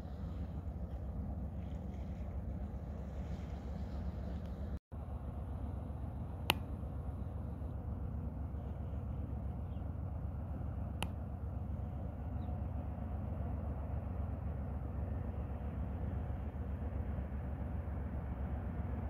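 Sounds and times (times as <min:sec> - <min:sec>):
ship rumbling past: 0:00.0 - 0:19.0.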